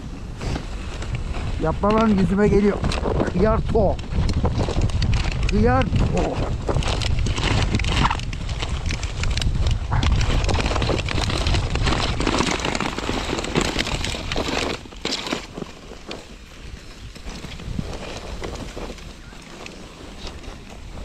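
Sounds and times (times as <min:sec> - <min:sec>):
wind buffeting microphone: 0:00.0 - 0:15.0, 0:16.0 - 0:21.0
sled runners scraping on snow: 0:00.0 - 0:21.0.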